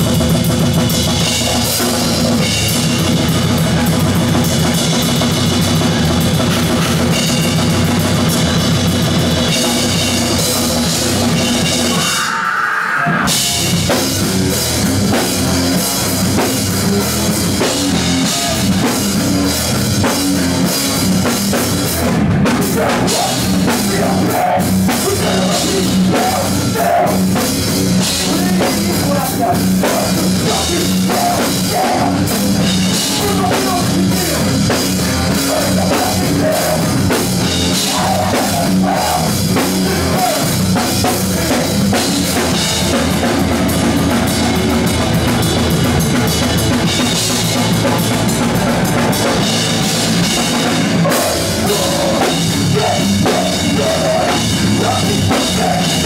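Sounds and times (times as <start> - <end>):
drum kit and bass drum: 0.0 - 56.0
live rock band playing: 0.0 - 56.0.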